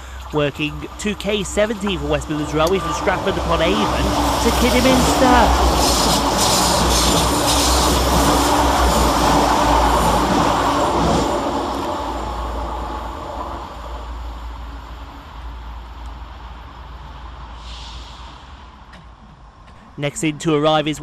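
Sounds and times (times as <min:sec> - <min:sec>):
diesel trains running past: 0:00.0 - 0:21.0.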